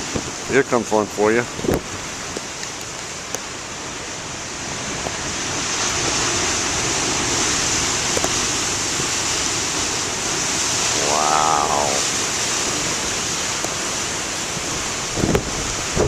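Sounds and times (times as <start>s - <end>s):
storm waves breaking: 0.0s - 16.0s.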